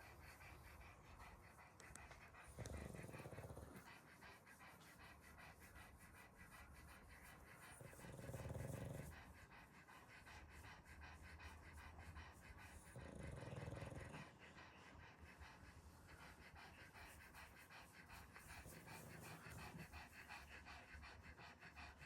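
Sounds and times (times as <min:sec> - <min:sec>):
dog snoring softly: 0:00.0 - 0:22.0.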